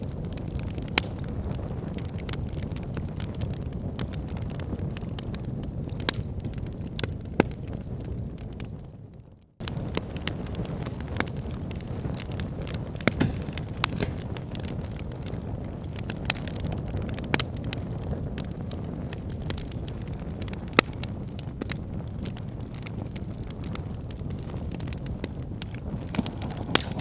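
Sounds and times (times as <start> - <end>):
bonfire flames rumbling: 0.0 - 27.0
burning wood popping and crackling: 0.0 - 27.0.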